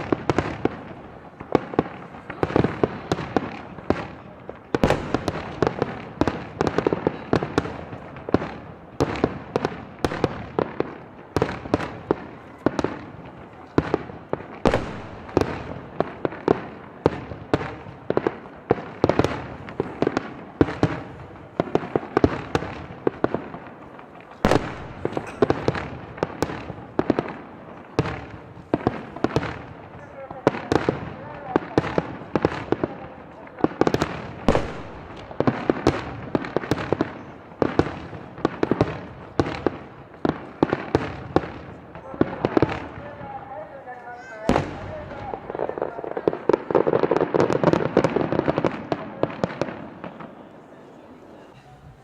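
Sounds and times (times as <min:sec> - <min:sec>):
fireworks banging: 0:00.0 - 0:52.0.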